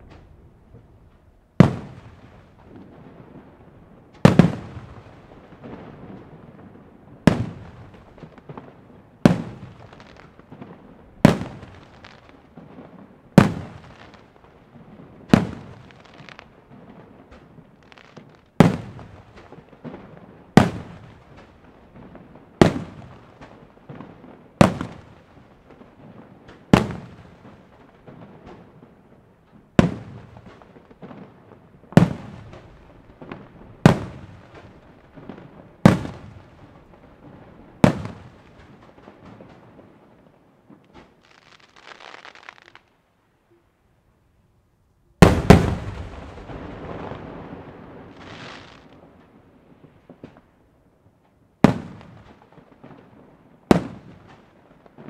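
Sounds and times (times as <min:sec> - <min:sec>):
firework bangs with rolling echo: 0:00.0 - 0:42.9, 0:45.2 - 0:50.7, 0:51.6 - 0:55.0.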